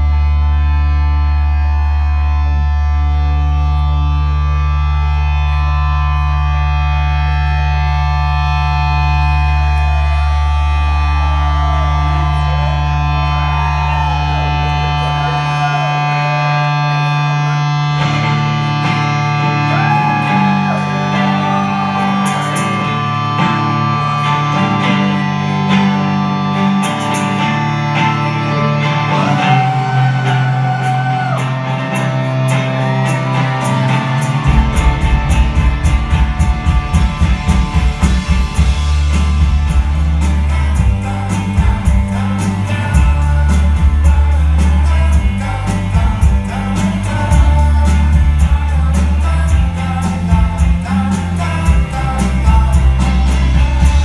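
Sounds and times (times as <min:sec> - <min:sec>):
deep bass note: 0:00.0 - 0:54.0
rock band droning chord: 0:00.0 - 0:54.0
sliding bending guitar notes: 0:00.0 - 0:54.0.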